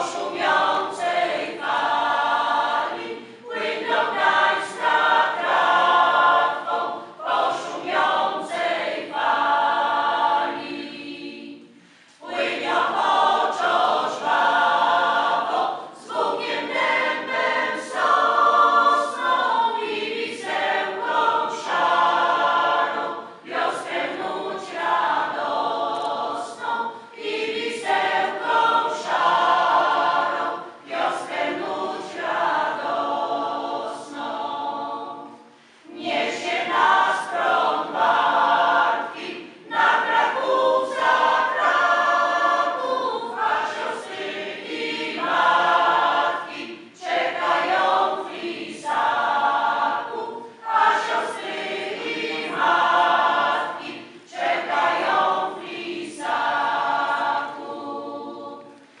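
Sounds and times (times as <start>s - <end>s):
choir singing unaccompanied: 0.0s - 59.0s.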